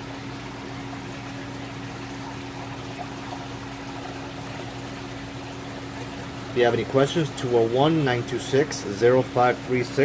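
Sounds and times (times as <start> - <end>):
aquarium pump humming: 0.0 - 10.0
moving water: 0.0 - 10.0.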